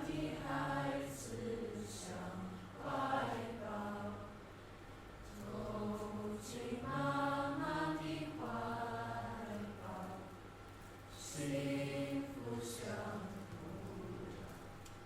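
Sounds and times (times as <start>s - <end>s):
voices chanting in held notes: 0.0s - 4.4s, 5.3s - 10.4s, 11.2s - 14.5s.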